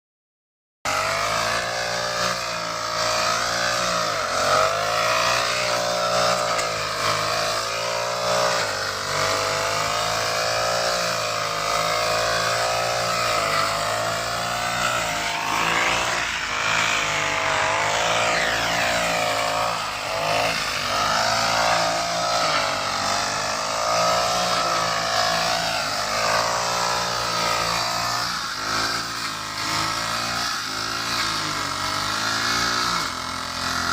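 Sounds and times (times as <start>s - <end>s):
grass cutter engine running: 0.9s - 33.9s.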